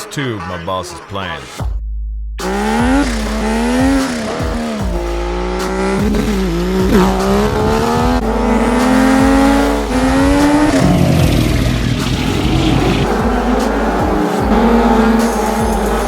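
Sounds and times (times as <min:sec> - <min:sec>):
engine revving hard: 0:02.4 - 0:16.0.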